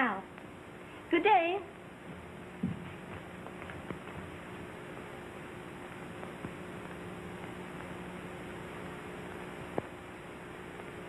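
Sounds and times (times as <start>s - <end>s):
film soundtrack hiss and hum: 0.0s - 11.0s.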